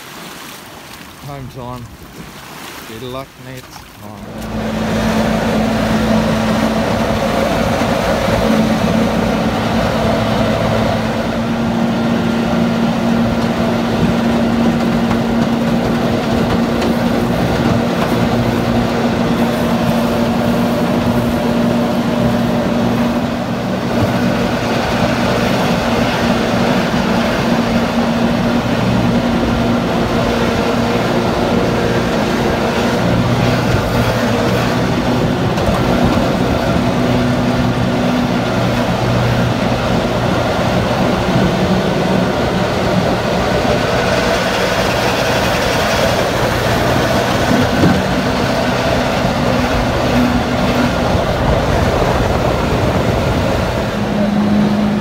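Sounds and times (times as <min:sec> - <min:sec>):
boat engine drone: 0:00.0 - 0:55.0
water rushing along hull: 0:00.0 - 0:55.0.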